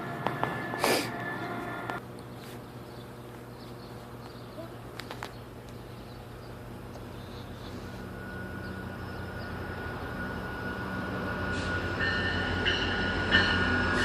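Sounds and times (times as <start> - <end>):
diesel locomotive engine hum: 0.0 - 14.0
thin steady whine: 0.0 - 14.0.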